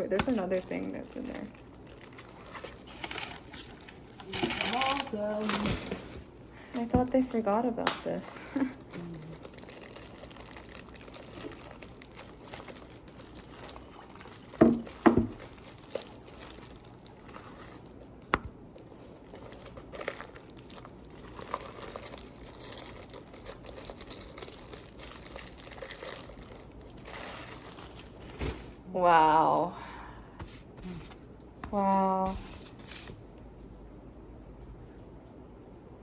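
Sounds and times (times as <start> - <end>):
paper and packaging crinkling: 0.0 - 7.4, 8.2 - 28.8, 30.4 - 33.2.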